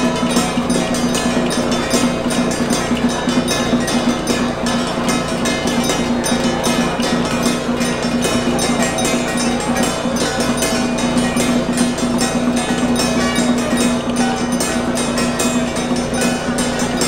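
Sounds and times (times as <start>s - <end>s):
fast percussion beat: 0.0s - 17.0s
steady held tone: 0.0s - 17.0s.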